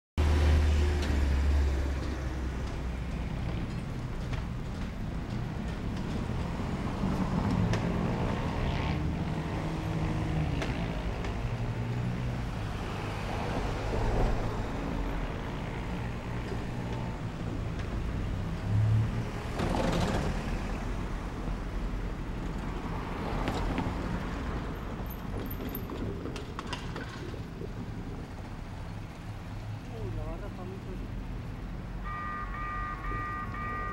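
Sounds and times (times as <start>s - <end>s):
traffic driving past: 0.2s - 33.9s.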